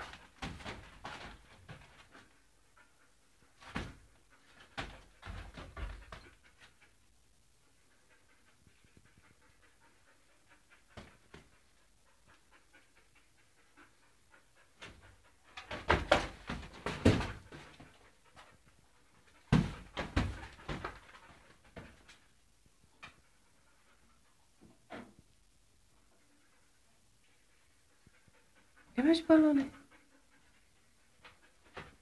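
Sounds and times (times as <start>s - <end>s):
dog panting softly: 0.0s - 32.0s.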